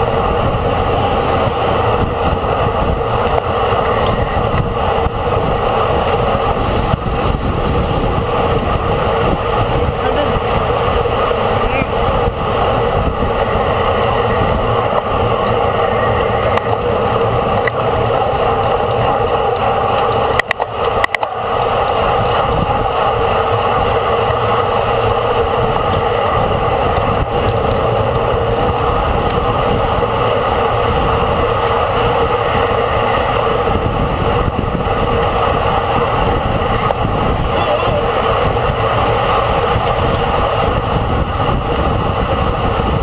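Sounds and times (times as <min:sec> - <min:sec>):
road noise: 0:00.0 - 0:43.0
wind over microphone: 0:00.0 - 0:43.0.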